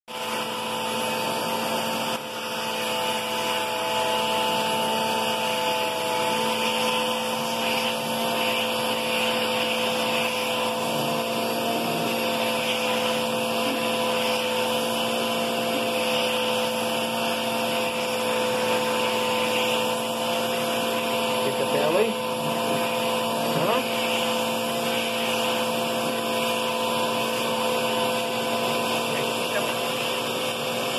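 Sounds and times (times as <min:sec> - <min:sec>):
vacuum cleaner running: 0:00.1 - 0:30.9.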